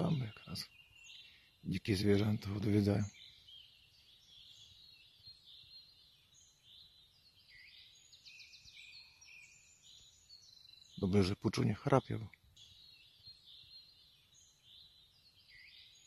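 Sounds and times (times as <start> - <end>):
small birds chirping and trilling: 0.0 - 16.0.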